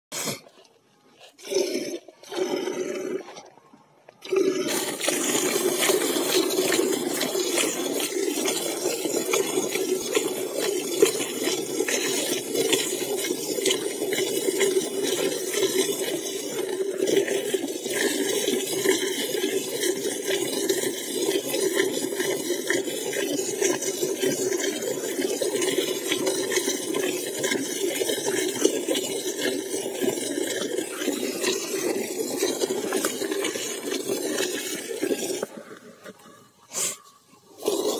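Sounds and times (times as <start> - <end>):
milk squirting into metal pail: 1.4 - 36.2, 37.6 - 37.9.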